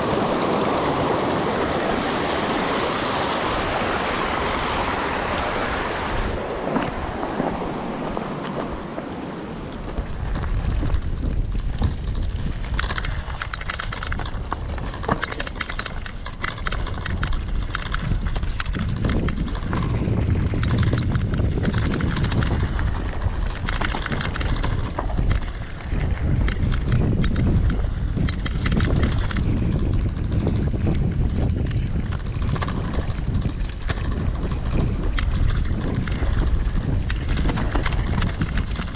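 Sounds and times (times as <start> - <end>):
bike rattling: 0.0 - 38.9
wind on microphone: 0.0 - 38.9.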